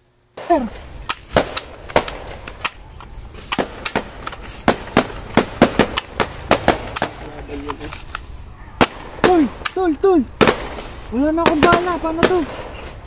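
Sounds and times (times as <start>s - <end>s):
gunshots: 0.4s - 2.8s, 3.4s - 7.4s, 8.8s - 13.0s.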